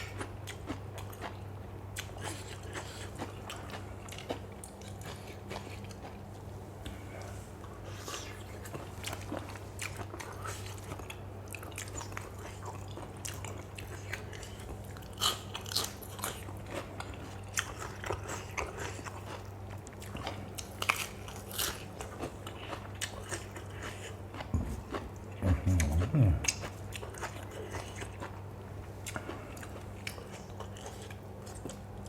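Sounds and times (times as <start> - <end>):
low steady hum: 0.0 - 32.0
person chewing and crunching: 0.0 - 32.0.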